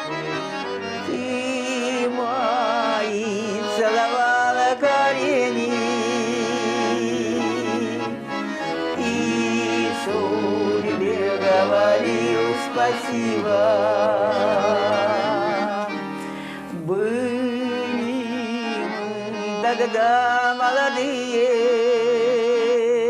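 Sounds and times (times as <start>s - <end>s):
button accordion melody: 0.0s - 23.0s.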